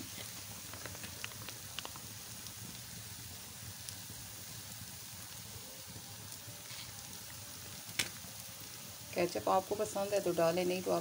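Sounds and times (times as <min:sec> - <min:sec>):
pasta sizzling in metal pan: 0:00.0 - 0:11.0.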